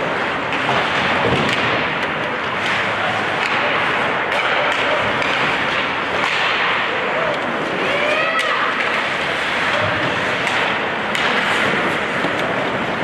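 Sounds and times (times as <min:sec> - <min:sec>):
hockey sticks and puck clacking: 0:00.0 - 0:13.0
skates on ice: 0:00.0 - 0:13.0.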